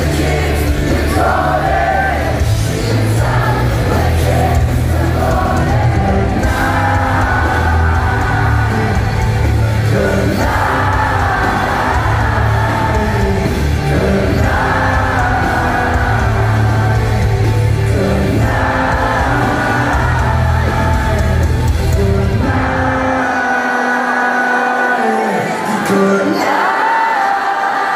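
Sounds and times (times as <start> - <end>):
loud live concert music: 0.0 - 27.9
person singing: 0.0 - 27.9.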